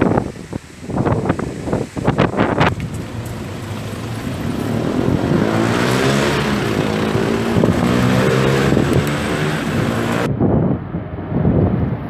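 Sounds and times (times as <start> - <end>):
vehicle engine running: 0.0 - 10.3
wind noise on microphone: 0.0 - 12.0.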